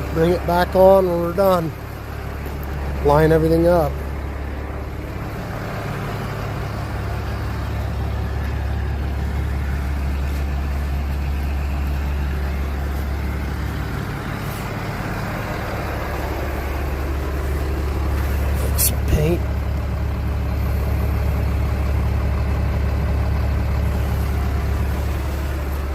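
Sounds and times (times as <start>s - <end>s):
diesel engine droning: 0.0s - 25.9s.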